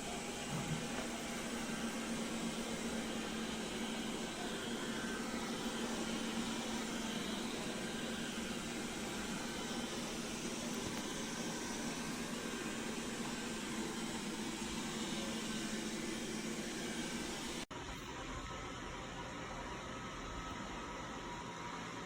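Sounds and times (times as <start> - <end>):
small fan whirring: 0.0 - 22.0.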